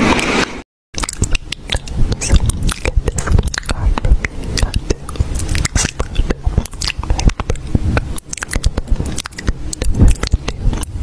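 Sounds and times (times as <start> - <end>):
crunchy chewing of food: 1.0 - 11.0
soft low thumps: 1.2 - 11.0.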